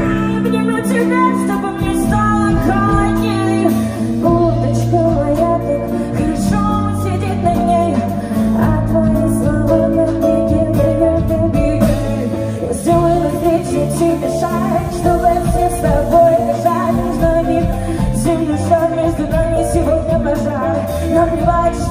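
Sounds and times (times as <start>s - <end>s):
instrumental accompaniment: 0.0s - 21.9s
woman singing into microphone: 0.0s - 21.9s.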